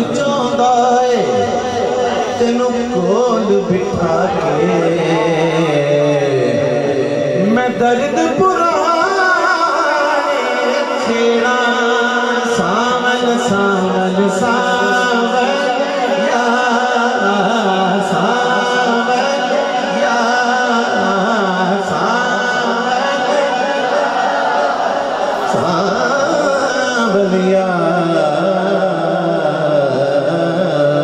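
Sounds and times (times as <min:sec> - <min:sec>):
man singing over pa: 0:00.0 - 0:31.0.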